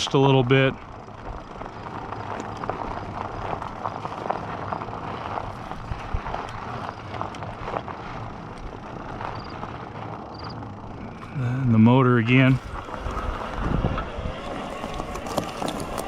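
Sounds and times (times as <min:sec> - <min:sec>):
tyres rolling over gravel: 0:00.0 - 0:16.0.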